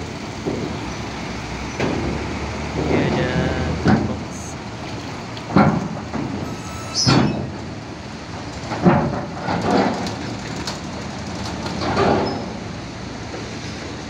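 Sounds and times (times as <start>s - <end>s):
truck engine running: 0.0s - 14.0s
wheels clanking over steel ramp: 0.0s - 14.0s.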